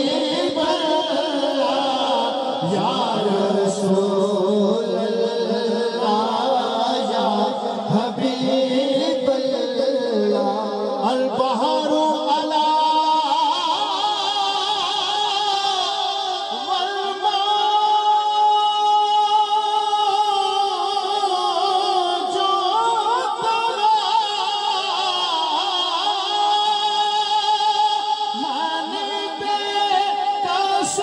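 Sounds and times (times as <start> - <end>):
man singing through microphone: 0.0 - 31.0.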